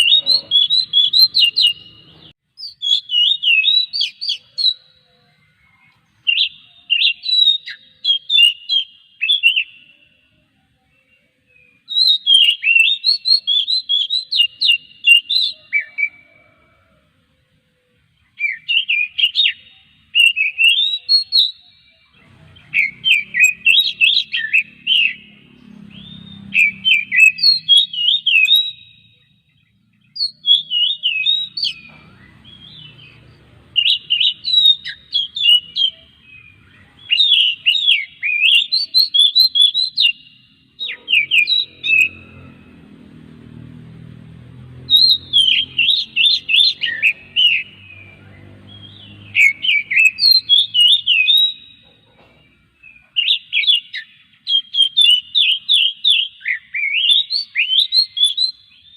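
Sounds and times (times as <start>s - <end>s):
bird singing whistled phrases: 0.0s - 10.2s, 10.9s - 16.4s, 18.3s - 29.4s, 30.1s - 42.4s, 44.9s - 52.1s, 52.9s - 58.9s.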